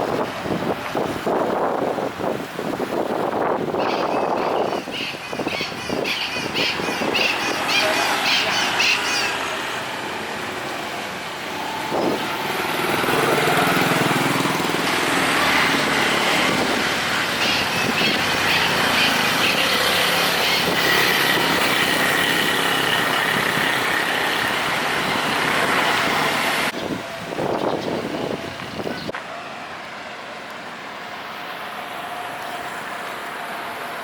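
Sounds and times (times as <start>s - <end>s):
motor vehicles passing: 0.0s - 34.0s.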